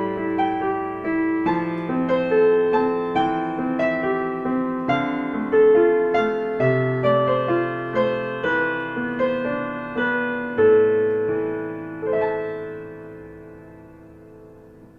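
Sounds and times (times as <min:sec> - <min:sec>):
soft slow piano music: 0:00.0 - 0:14.9.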